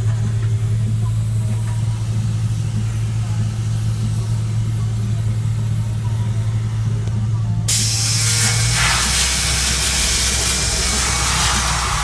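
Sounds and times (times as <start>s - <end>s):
air compressor engine humming: 0.0s - 12.0s.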